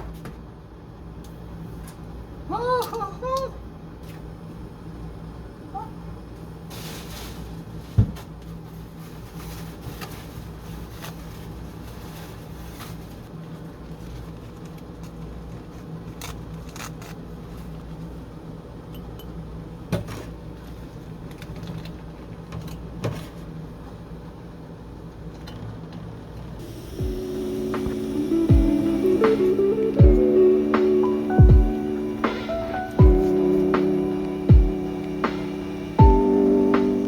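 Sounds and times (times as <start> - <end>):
low room hum: 0.0 - 37.0.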